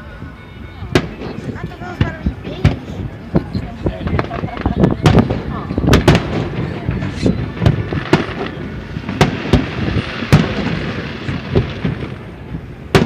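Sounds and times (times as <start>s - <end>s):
distant fireworks booming: 0.9s - 13.0s
fireworks crackle: 0.9s - 13.0s.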